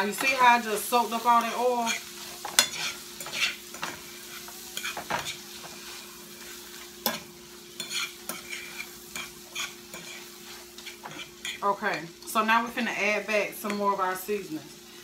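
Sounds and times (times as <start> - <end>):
utensil scraping frying pan: 0.0 - 12.2
butter and oil sizzling: 0.0 - 15.0.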